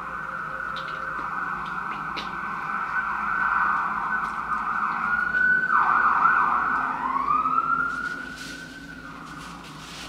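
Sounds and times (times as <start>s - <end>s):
emergency siren wailing: 0.0s - 10.0s.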